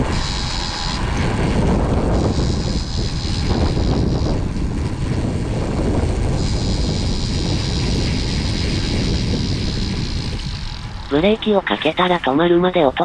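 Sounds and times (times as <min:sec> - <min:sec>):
motorbike engine and road noise: 0:00.0 - 0:13.0.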